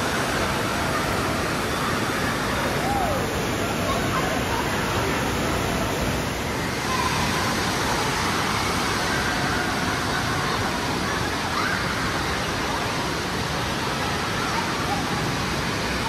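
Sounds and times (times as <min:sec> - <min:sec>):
faint voices of children: 0:00.0 - 0:16.0
pool water rushing: 0:00.0 - 0:16.0.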